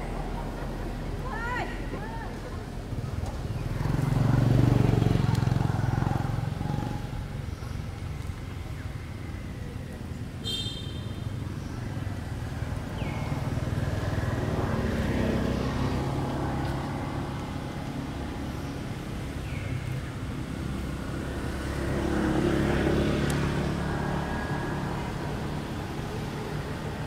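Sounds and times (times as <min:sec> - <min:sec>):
vehicle engines passing: 0:00.0 - 0:27.0.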